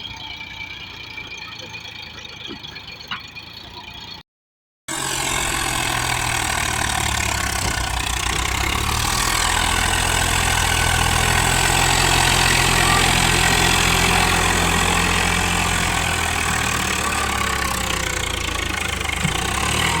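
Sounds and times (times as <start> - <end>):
large diesel engine running: 0.0 - 4.2, 4.9 - 20.0.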